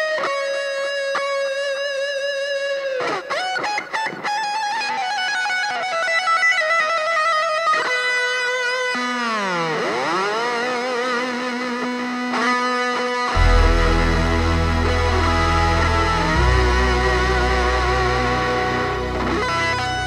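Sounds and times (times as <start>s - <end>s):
electric guitar held notes: 0.0s - 20.0s.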